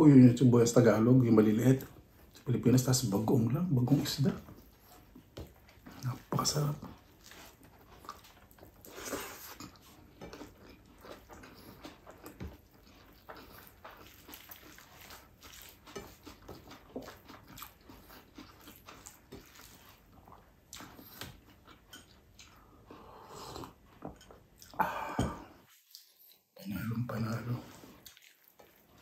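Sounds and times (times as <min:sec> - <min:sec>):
person chewing with lip smacking: 0:04.5 - 0:26.5, 0:27.8 - 0:29.0.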